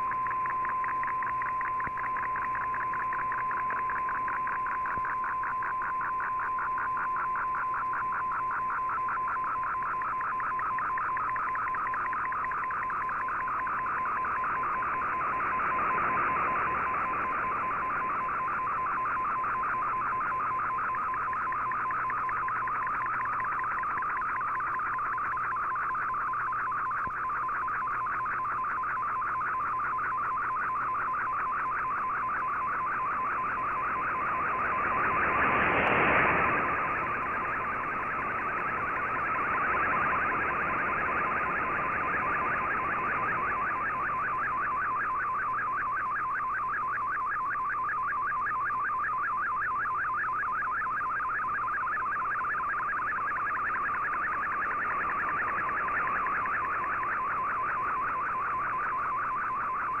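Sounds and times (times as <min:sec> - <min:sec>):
radio static: 0:00.0 - 0:49.0, 0:50.1 - 1:00.0
warbling radio data tone: 0:00.0 - 1:00.0.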